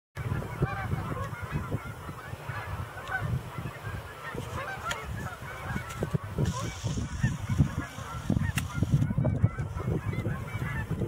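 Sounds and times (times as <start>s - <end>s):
flock of geese honking: 0.2s - 11.0s.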